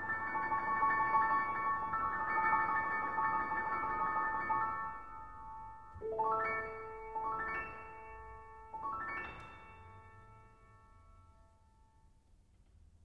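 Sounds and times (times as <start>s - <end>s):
piano rolled chords: 0.0s - 12.0s.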